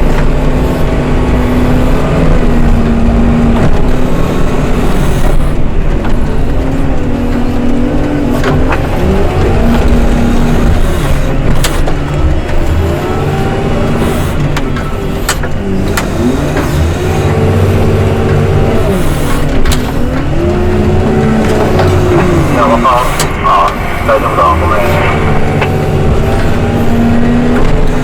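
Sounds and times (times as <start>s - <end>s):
diesel engine revving under load: 0.0s - 28.0s.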